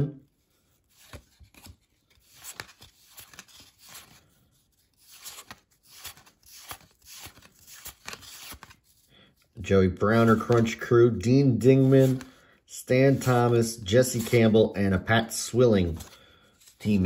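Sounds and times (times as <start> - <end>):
cards and wrapper rustling: 0.8 - 9.1, 10.1 - 17.0.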